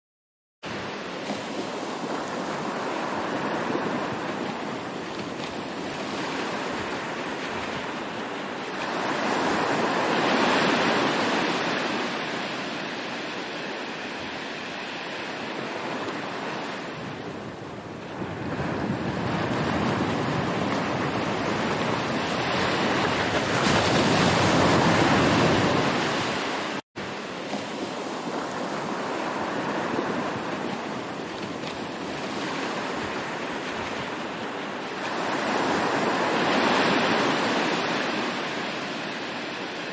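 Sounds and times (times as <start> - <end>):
sea waves washing in: 0.6 - 39.9.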